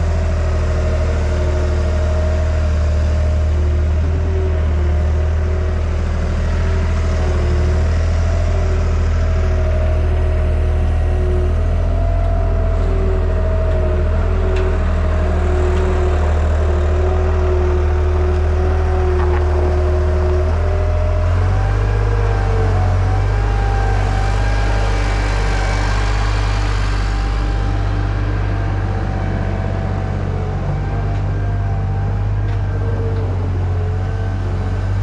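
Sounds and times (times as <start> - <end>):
steady whine: 0.0 - 35.0
vehicle engine running: 0.0 - 35.0.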